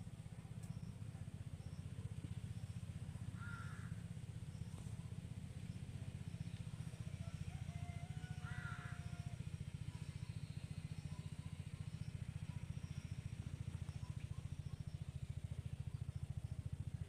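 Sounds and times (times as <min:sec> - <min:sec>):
pulsing engine-like drone: 0:00.0 - 0:17.0.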